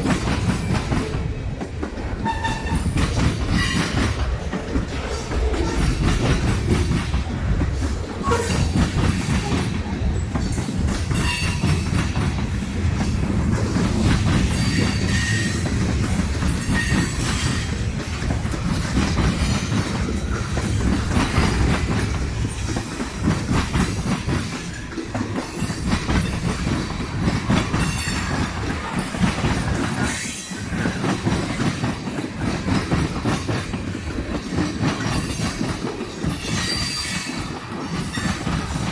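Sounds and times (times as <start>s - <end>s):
train wheels clacking over rails: 0.0s - 38.9s.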